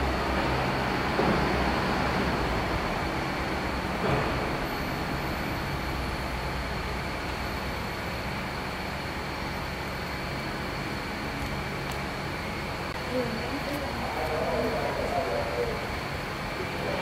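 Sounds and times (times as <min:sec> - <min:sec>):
mechanical drone with low hum: 0:00.0 - 0:17.0.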